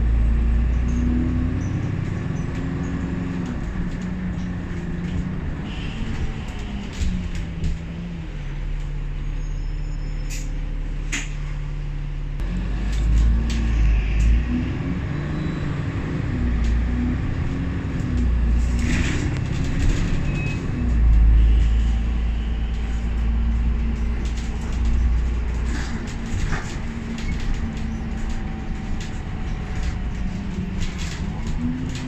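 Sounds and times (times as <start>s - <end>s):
bus diesel engine: 0.0s - 32.0s.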